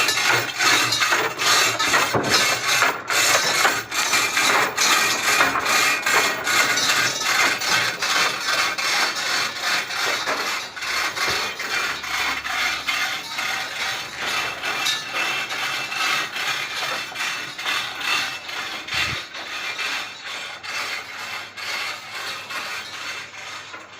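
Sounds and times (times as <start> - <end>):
rhythmic rubbing and scraping: 0.0 - 23.9.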